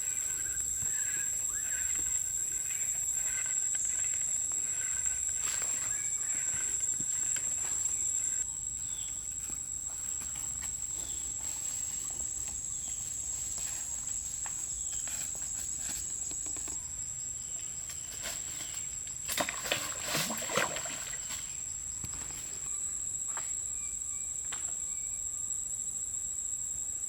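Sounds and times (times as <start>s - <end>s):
high-pitched insect trill: 0.0s - 27.0s.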